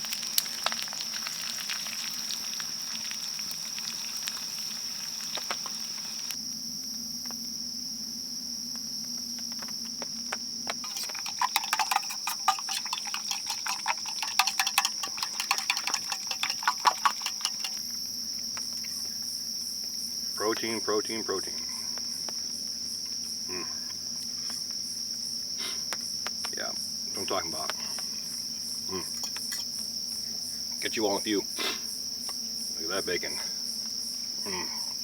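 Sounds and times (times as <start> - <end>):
food crackling in a skillet: 0.0 - 6.5, 8.7 - 20.8, 21.4 - 35.0
insects chirring: 0.0 - 35.0.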